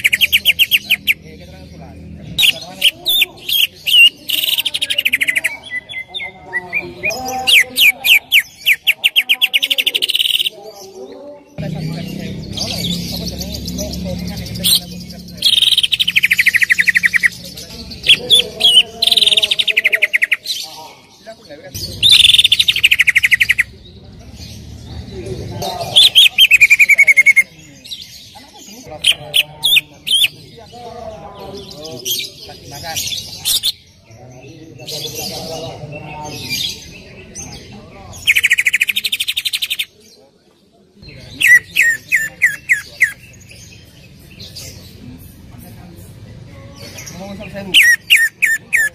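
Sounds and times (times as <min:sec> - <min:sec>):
bird singing fast trills: 0:00.0 - 0:40.2, 0:41.0 - 0:45.3, 0:46.1 - 0:48.9.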